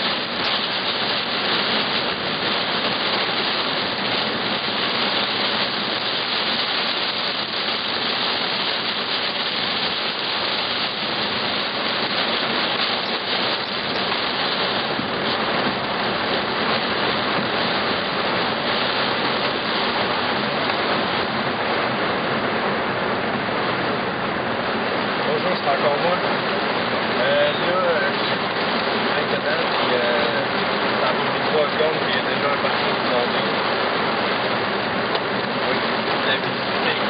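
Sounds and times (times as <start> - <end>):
heavy rain on car windshield: 0.0 - 37.0.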